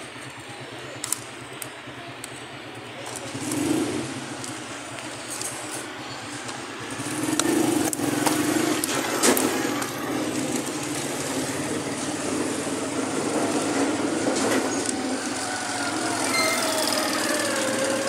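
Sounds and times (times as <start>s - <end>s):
small engine running: 0.0s - 18.0s
toy excavator clicking and scraping: 1.0s - 18.0s.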